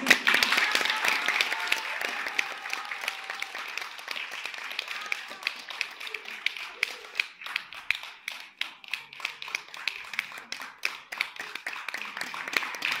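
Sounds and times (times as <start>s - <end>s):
people clapping in rhythm: 0.0s - 13.0s.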